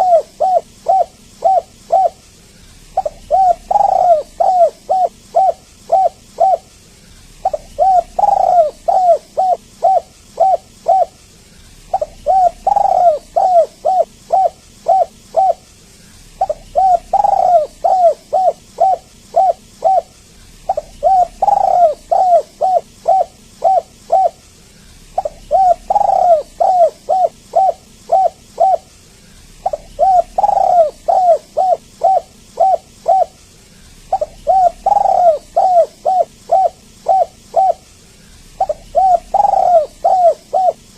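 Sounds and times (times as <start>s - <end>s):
dove cooing: 0.0s - 15.7s, 16.3s - 40.9s.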